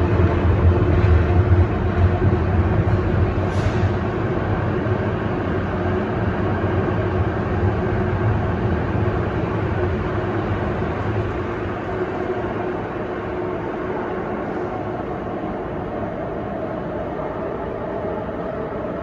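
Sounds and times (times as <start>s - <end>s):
train motor hum: 0.0s - 19.0s
train wheels rumbling on rail: 0.0s - 19.0s.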